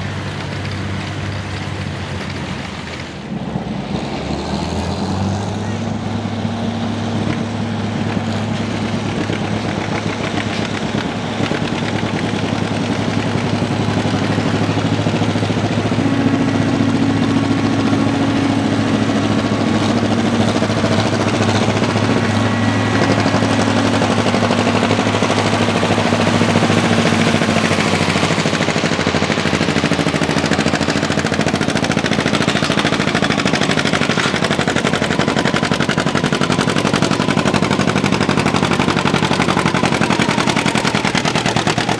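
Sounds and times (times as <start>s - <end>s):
two-cylinder engine popping exhaust: 5.5s - 41.9s.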